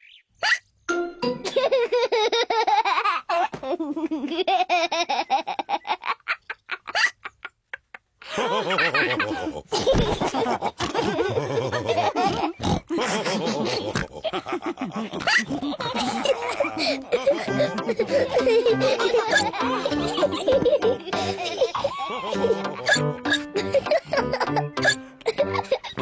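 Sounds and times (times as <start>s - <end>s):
cartoon pigs laughing with snorts: 1.4s - 26.0s.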